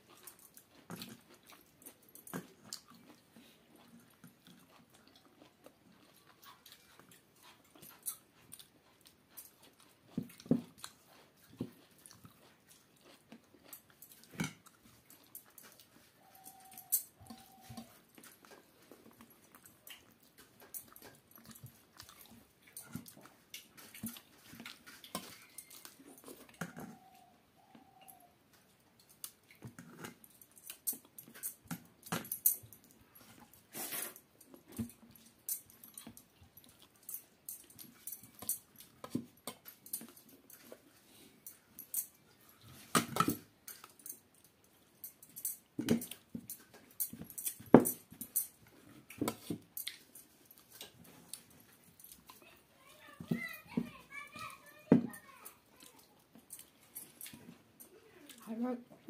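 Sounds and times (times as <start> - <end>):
wet chewing and lip smacks: 0.0 - 52.7, 55.5 - 58.6.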